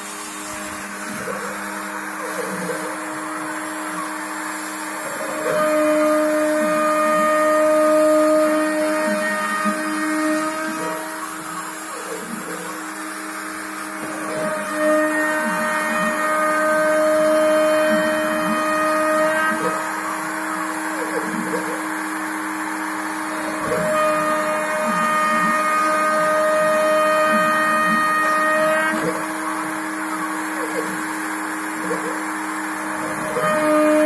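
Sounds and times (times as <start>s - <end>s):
axis drives whining: 0.0s - 34.0s
router spindle motor whine: 0.0s - 34.0s.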